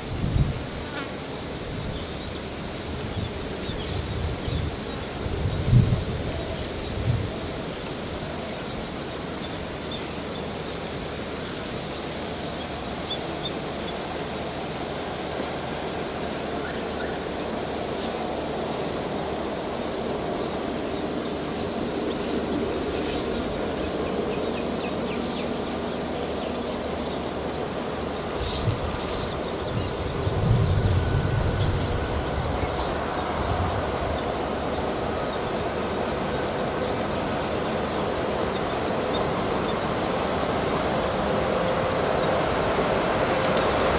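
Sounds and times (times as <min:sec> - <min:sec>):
train rumble: 0:00.0 - 0:43.9.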